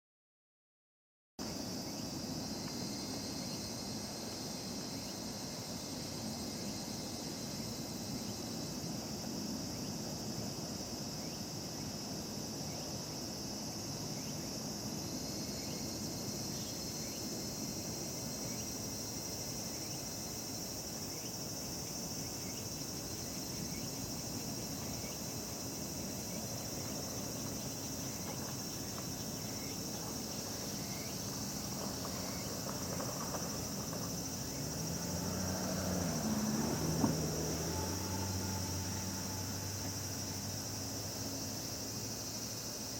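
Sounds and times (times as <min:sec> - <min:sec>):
cicadas calling: 0:01.4 - 0:42.9.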